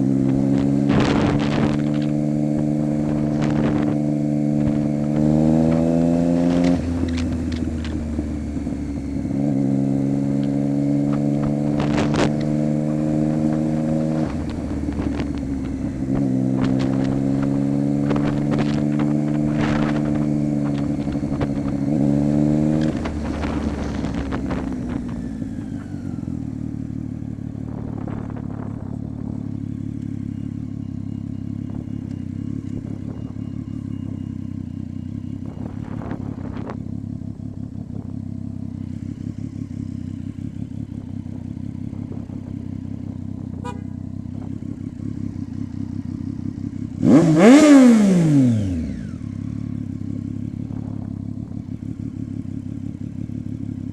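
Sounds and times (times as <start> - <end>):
motorcycle engine idling: 0.0 - 53.9
motorcycle engine revving: 0.0 - 53.9.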